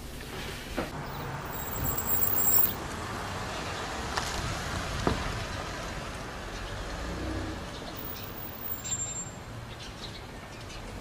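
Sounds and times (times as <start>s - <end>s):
car tyre and engine noise: 0.0s - 11.0s.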